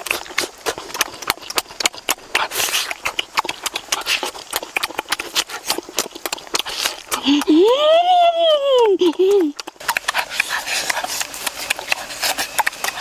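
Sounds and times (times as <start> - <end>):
mouth smacking and chewing: 0.0 - 13.0.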